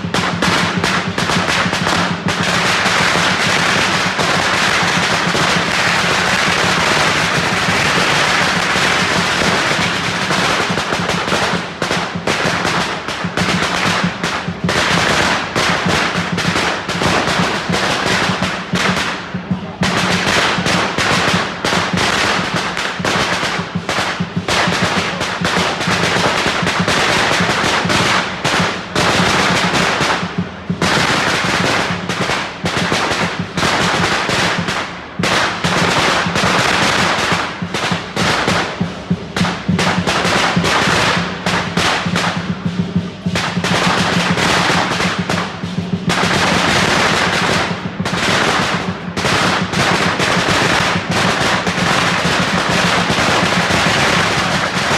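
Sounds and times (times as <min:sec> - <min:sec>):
firecrackers popping: 0:00.0 - 0:54.9.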